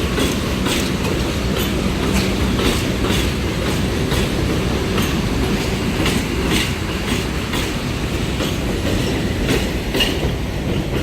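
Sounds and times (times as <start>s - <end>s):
subway train rumbling: 0.0s - 11.0s
wheels clacking over rail joints: 0.0s - 11.0s.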